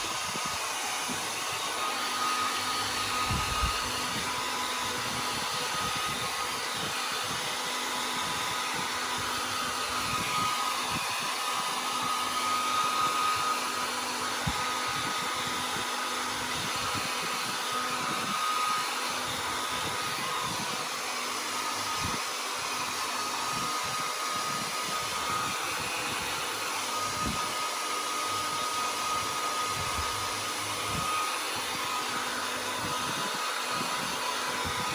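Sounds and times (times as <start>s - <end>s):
dryer and fan rushing: 0.0s - 34.9s.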